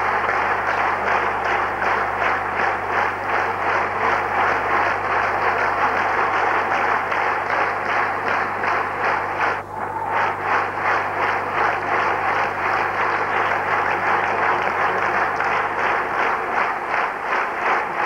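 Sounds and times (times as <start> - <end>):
audience clapping in unison: 0.0 - 18.0.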